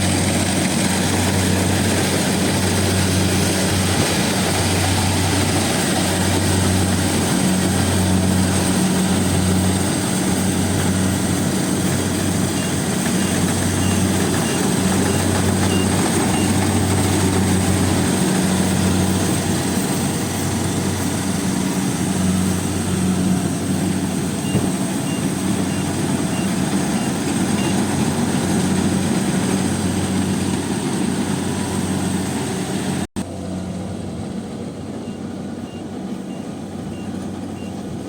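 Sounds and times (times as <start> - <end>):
combine harvester drone: 0.0 - 38.0.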